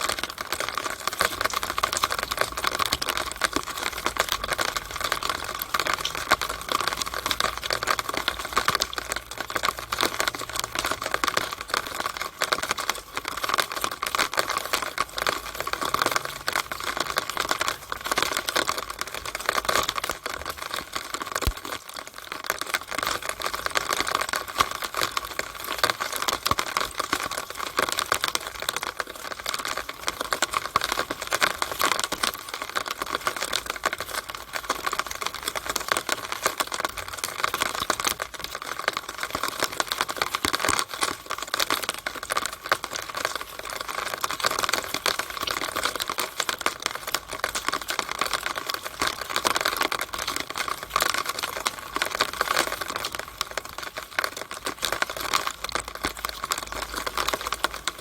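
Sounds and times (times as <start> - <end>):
rainwater splashing from downspout: 0.0 - 58.0.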